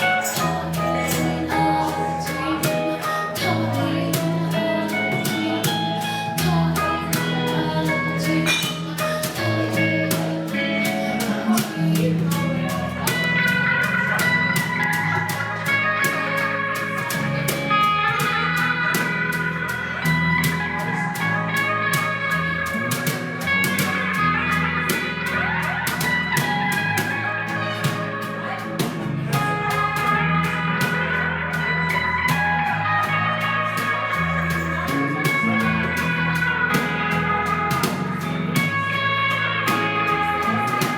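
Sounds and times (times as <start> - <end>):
bass: 0.0 - 40.9
drums and cymbals: 0.0 - 40.9
jazz guitar lines: 0.0 - 40.9.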